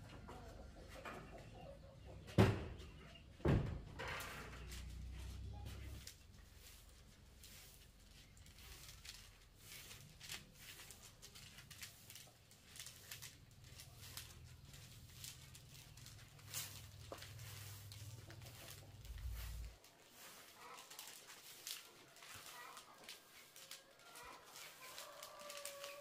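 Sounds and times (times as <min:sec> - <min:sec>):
objects being handled: 0:04.0 - 0:26.0.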